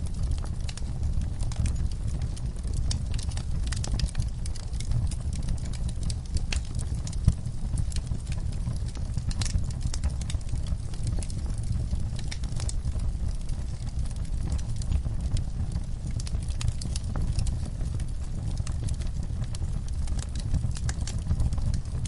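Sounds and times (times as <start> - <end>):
fire crackling and popping: 0.0 - 22.0
low noise of flames: 0.0 - 22.0.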